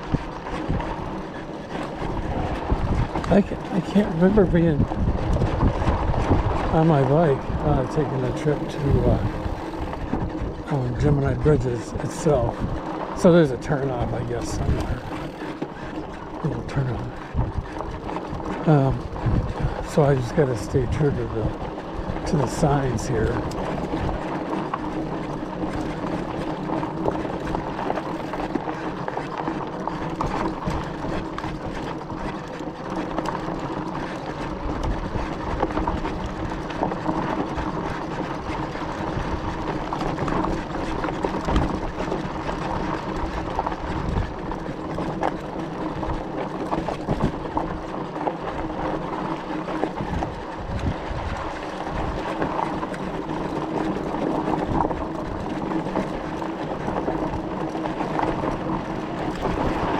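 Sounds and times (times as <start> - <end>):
motor hum: 0.0 - 59.9
tyre and road noise: 0.0 - 59.9.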